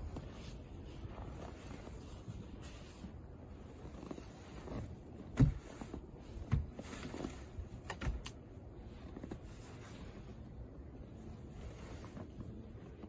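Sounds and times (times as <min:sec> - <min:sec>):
snow brush scraping windshield: 0:00.0 - 0:07.8, 0:08.6 - 0:13.0.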